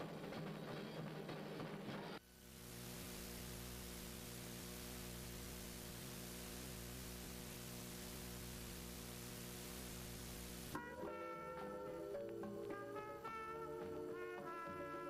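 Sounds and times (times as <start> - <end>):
film soundtrack hiss: 0.0 - 15.0
low electrical hum: 2.2 - 15.0.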